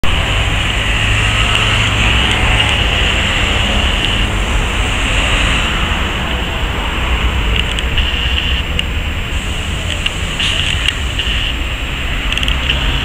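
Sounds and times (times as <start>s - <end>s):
electric trolleybus driving off: 0.0s - 13.0s.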